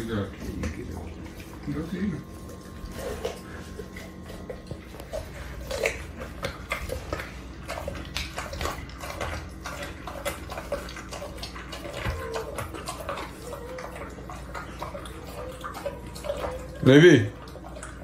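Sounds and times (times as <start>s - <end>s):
dog chewing and crunching: 0.0s - 18.0s.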